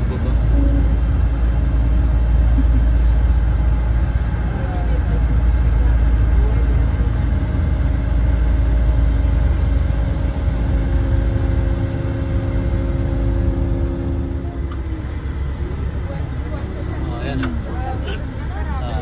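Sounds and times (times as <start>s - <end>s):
bus road rumble and engine drone: 0.0s - 19.0s.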